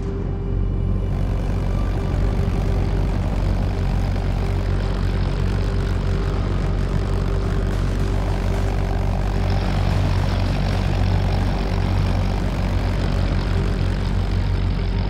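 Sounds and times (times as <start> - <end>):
propeller plane piston engine: 0.6 - 15.0.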